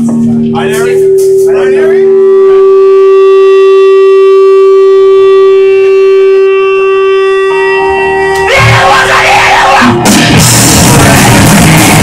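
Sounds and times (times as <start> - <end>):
electric guitar feedback: 0.0 - 12.0.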